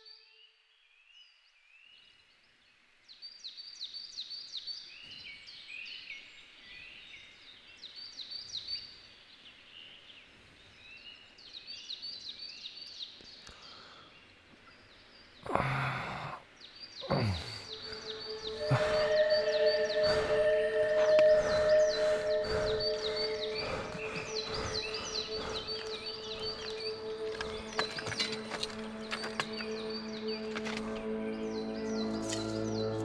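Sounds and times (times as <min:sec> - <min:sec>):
woodland birds chirping: 0:00.0 - 0:33.0.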